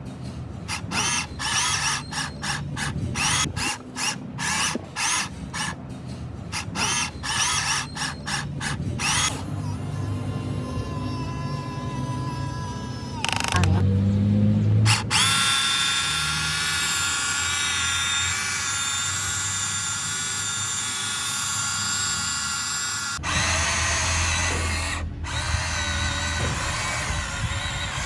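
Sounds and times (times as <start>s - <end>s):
toy excavator motors whining: 0.6s - 5.8s, 6.5s - 13.9s, 14.8s - 28.0s.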